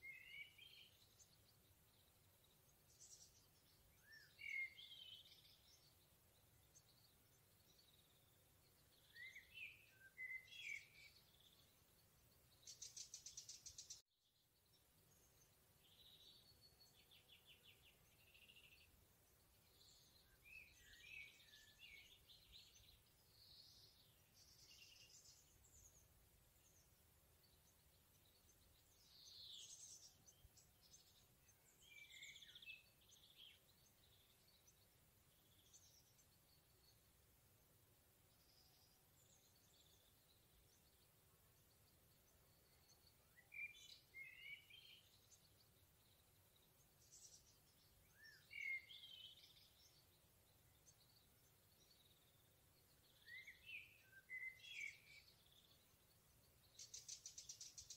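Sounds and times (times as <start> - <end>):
songbirds chirping: 0.0 - 57.9.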